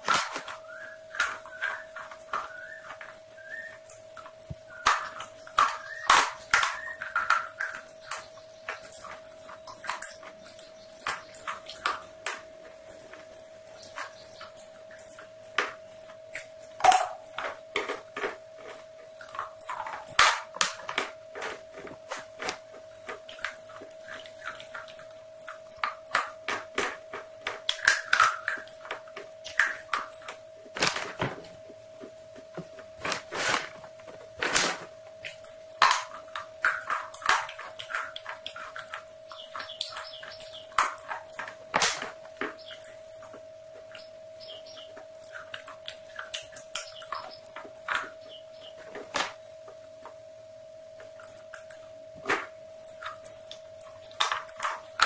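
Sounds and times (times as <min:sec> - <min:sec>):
crunching fried chicken: 0:00.0 - 0:50.1, 0:50.9 - 0:55.0
steady hum-like tone: 0:00.0 - 0:55.0.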